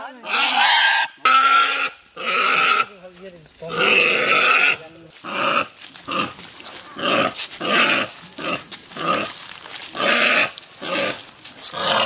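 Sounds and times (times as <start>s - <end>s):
pig squealing and grunting: 0.1s - 3.0s, 3.6s - 12.0s.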